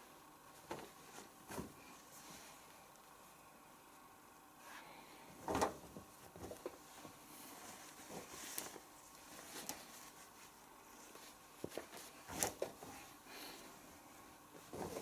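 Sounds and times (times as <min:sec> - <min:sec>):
fabric rustling: 0:00.4 - 0:03.3, 0:04.6 - 0:15.0.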